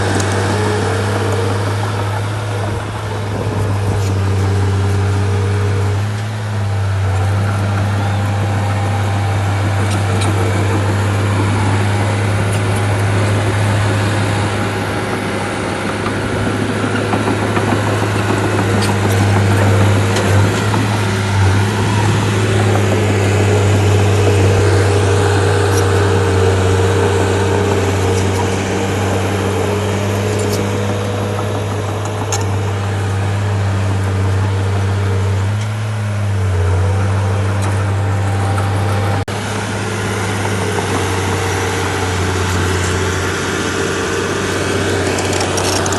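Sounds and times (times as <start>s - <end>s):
bulldozer diesel engine droning: 0.0s - 45.9s.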